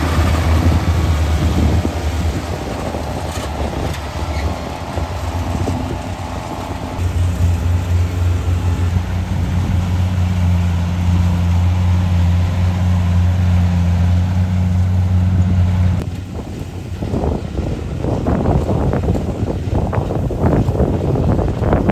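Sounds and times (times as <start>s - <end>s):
combine harvester engine droning: 0.0s - 21.9s.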